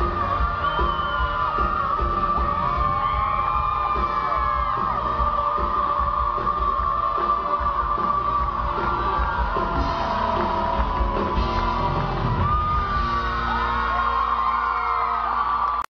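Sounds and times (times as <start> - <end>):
live band music: 0.0 - 14.5
audience yelling and whooping: 0.0 - 15.9.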